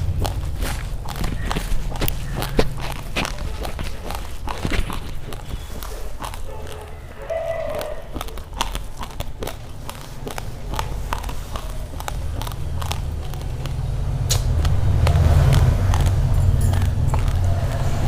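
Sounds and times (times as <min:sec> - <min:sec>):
rice grains crunching between teeth: 0:00.0 - 0:18.0.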